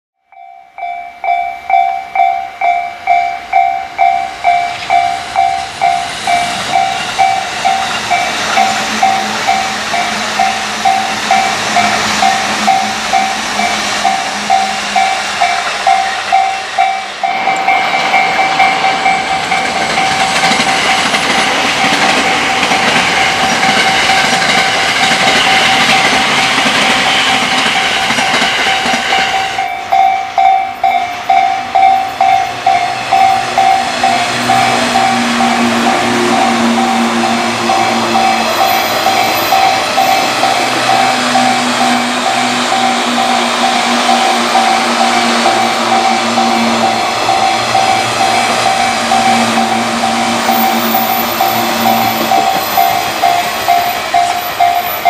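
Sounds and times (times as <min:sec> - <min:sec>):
level-crossing bell ringing: 0:00.2 - 0:55.0
train wheels rumbling on rails: 0:01.2 - 0:55.0.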